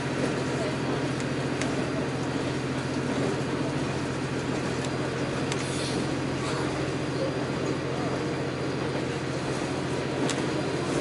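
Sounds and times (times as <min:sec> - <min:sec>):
diesel engine drone: 0:00.0 - 0:11.0
wheels on rails rumble: 0:00.0 - 0:11.0.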